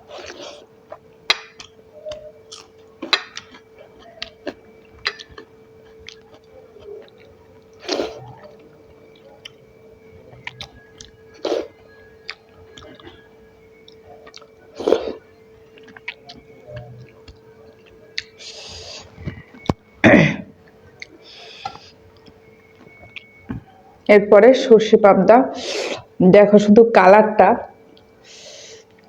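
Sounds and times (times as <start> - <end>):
person chewing and smacking: 0.0 - 24.1
faint steady hum: 0.0 - 29.0.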